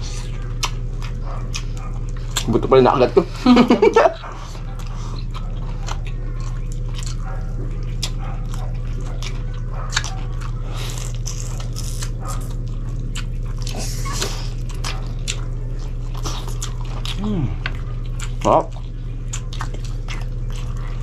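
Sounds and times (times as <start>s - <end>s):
chewing and biting food: 0.0s - 21.0s
steady low hum: 0.0s - 21.0s.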